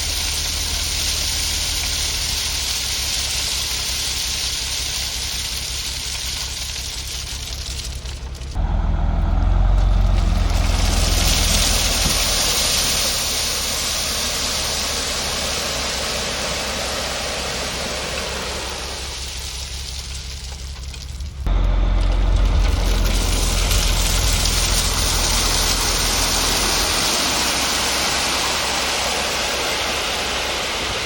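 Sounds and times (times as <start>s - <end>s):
diesel truck engine running: 0.0s - 31.0s
gravel pouring with rushing hiss: 0.0s - 31.0s.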